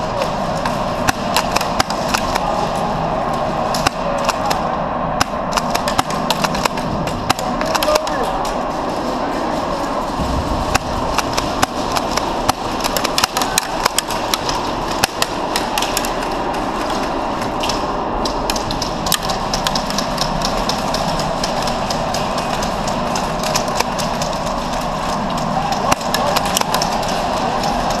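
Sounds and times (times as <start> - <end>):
steady background noise: 0.0 - 28.0
pellets striking wood: 0.2 - 2.7, 5.2 - 28.0.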